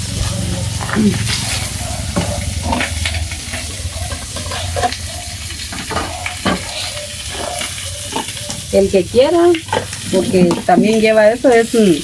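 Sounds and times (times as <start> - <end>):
plastic bowls and utensils clinking: 0.0 - 12.0.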